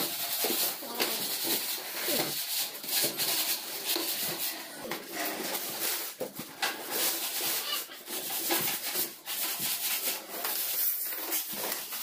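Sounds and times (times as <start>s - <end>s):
rustling cardboard and plastic: 0.0s - 12.0s.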